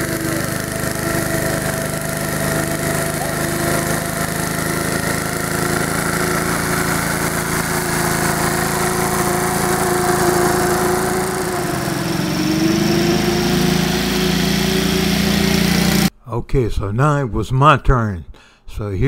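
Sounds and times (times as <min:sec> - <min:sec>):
riding mower engine running: 0:00.0 - 0:16.1.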